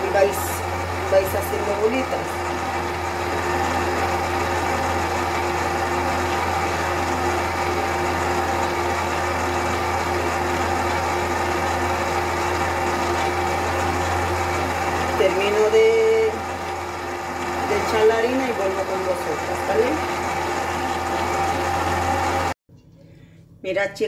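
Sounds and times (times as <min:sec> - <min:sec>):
stand mixer motor humming: 0:00.0 - 0:22.6.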